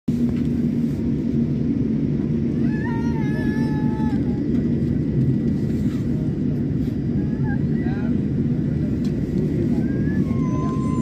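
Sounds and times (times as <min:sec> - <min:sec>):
airliner engines rumbling: 0:00.1 - 0:11.0.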